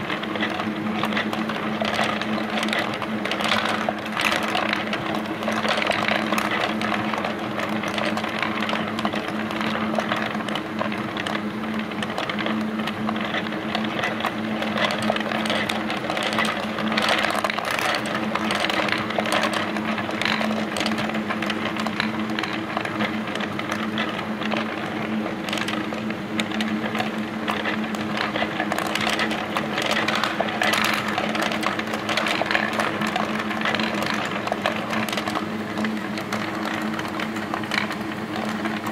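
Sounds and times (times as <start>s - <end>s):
electric motor hum: 0.0s - 38.9s.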